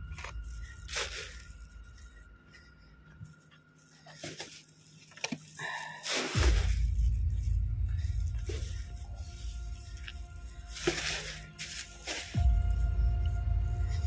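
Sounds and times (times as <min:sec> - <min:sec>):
plastic garbage bag rustling: 0:00.0 - 0:02.6, 0:03.2 - 0:12.6.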